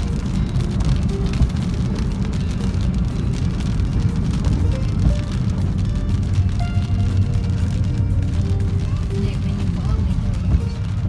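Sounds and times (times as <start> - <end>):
car road and engine rumble: 0.0 - 11.0
faint music: 0.0 - 11.0.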